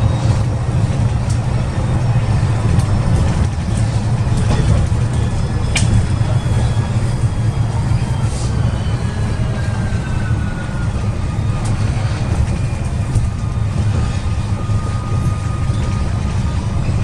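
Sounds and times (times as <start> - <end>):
bus diesel engine droning: 0.0 - 17.0
road and cabin noise: 0.0 - 17.0.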